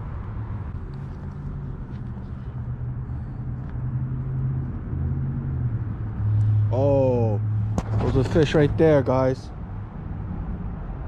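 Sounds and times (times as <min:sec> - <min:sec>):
road traffic hum: 0:00.0 - 0:11.0
vehicle engine drone: 0:00.0 - 0:11.0.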